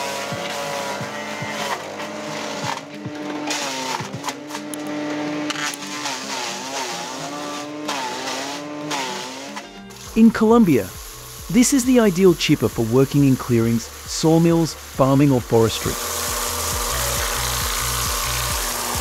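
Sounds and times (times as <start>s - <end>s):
wood chipper engine running: 0.0s - 19.0s.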